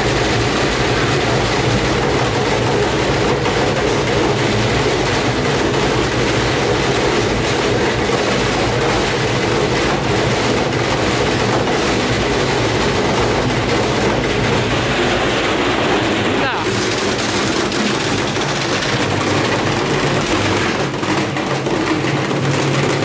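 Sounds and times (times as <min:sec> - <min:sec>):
washing machine drone: 0:00.0 - 0:23.0
washing machine rattle: 0:00.0 - 0:23.0.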